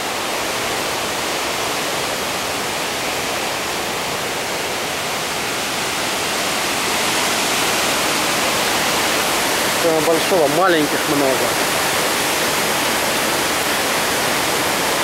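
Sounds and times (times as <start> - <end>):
rushing waterfall roar: 0.0 - 15.0.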